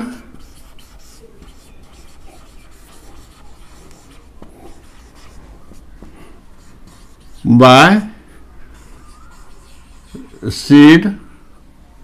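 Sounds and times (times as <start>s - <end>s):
marker scratching on whiteboard: 0.1s - 10.8s.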